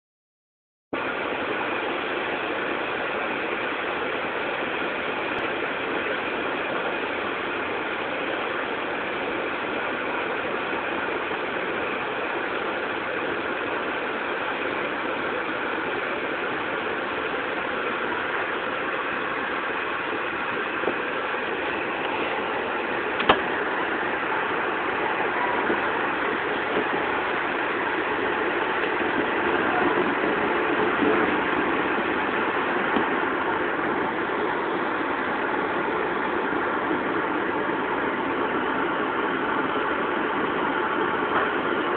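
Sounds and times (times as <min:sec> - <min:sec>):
train running noise from inside: 0:01.0 - 0:41.9.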